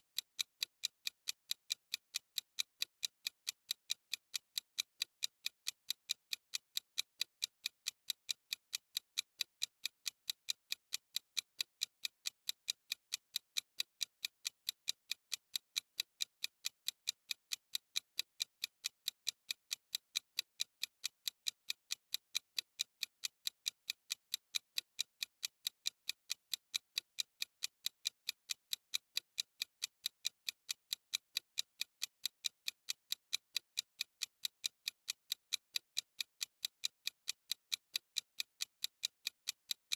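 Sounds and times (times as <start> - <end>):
clock-style ticking: 0.0 - 39.9.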